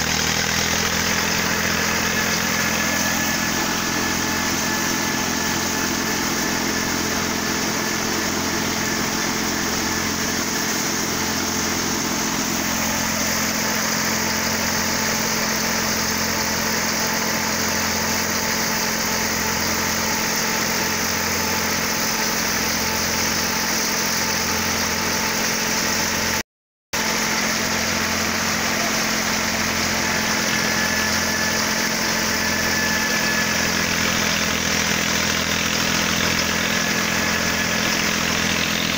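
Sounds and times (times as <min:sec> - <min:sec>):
thresher spinning: 0:00.0 - 0:26.4, 0:27.0 - 0:38.9
tractor diesel engine drone: 0:00.0 - 0:26.4, 0:27.0 - 0:38.9.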